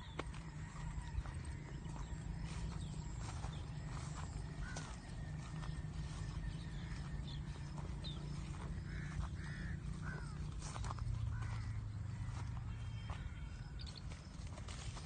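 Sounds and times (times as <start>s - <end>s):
birds calling: 0.0s - 15.0s
steady low rumble: 0.0s - 15.0s.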